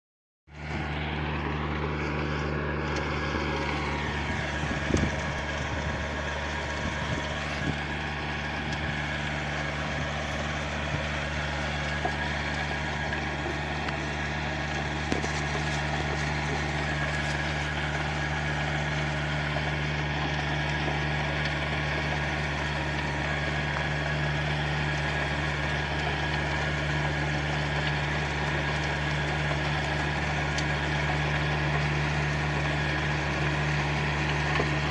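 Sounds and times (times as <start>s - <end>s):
tractor engine droning: 0.5s - 34.9s.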